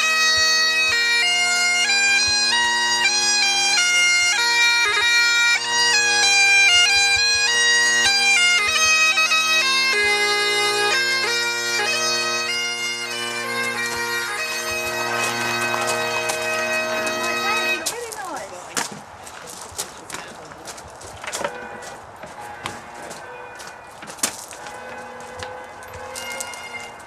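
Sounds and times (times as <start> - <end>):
bagpipes playing a tune: 0.0 - 18.8, 20.4 - 27.0.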